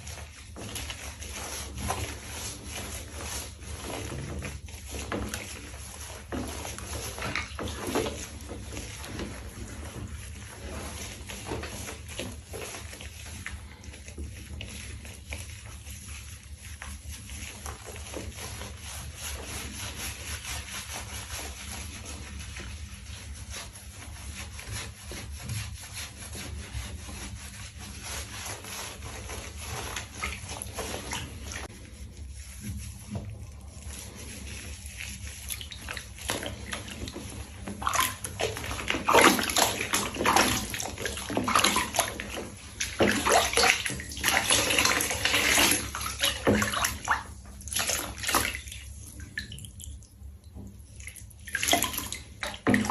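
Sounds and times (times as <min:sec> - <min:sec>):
water running and splashing in tub: 0:00.0 - 0:52.9.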